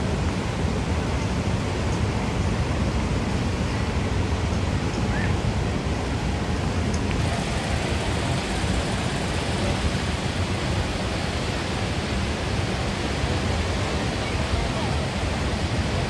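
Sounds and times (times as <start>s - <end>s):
roar of rushing waterfall: 0.0s - 16.0s.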